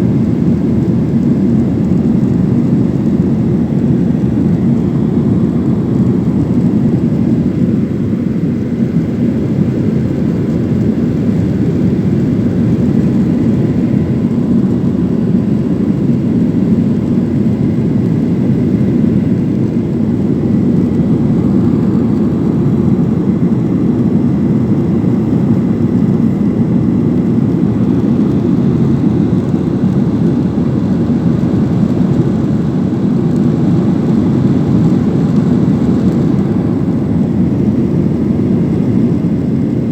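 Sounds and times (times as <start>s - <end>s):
airliner engine rumble in cabin: 0.0s - 39.9s
faint steady whines: 0.0s - 39.9s.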